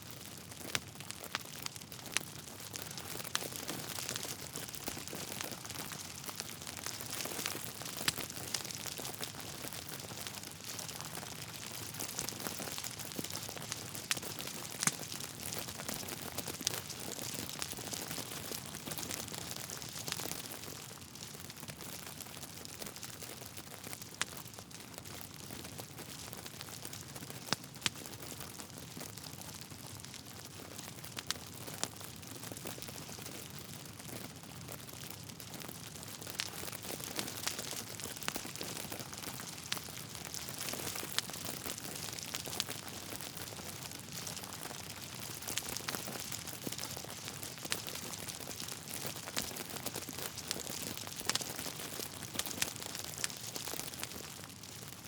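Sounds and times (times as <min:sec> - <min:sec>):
logs crackling in a fireplace: 0:00.0 - 0:55.0.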